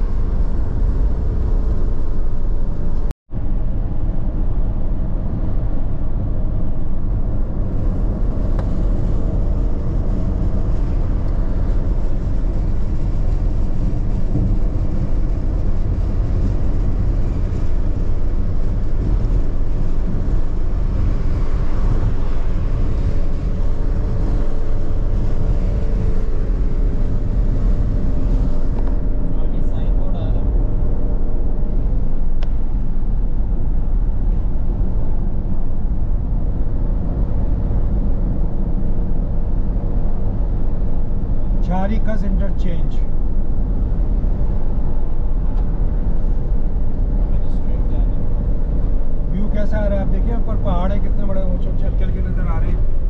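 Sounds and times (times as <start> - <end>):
car road noise: 0.0 - 53.0.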